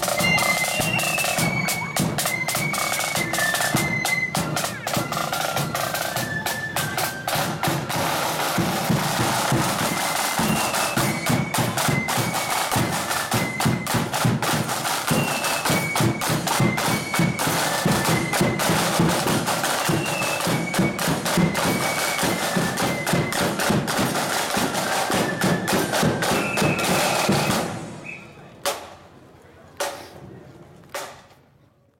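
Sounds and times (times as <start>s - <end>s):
rattling side drums: 0.0s - 28.0s
marching band melody: 0.0s - 28.9s.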